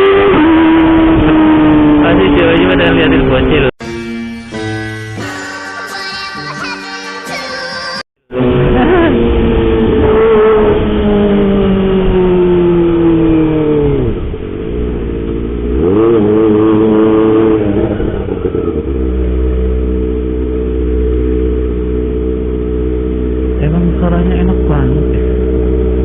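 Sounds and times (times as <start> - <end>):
motorcycle engine revving: 0.0 - 5.2, 8.2 - 26.0.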